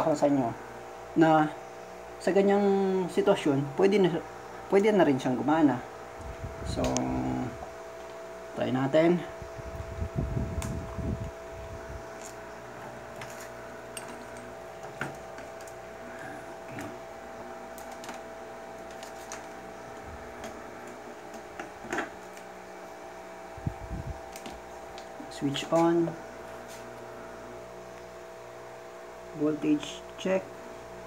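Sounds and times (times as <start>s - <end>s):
steady electrical hum: 0.0s - 31.0s.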